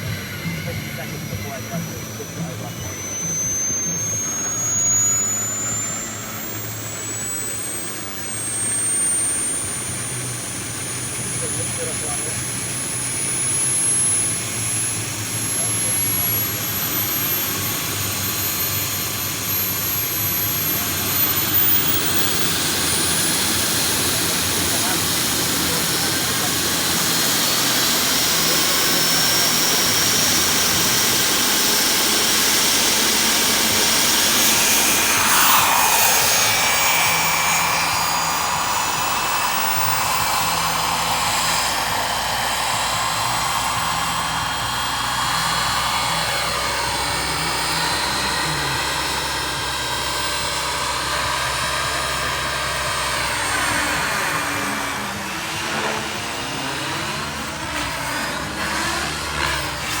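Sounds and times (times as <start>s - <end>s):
model helicopter turbine whine: 0.0s - 60.0s.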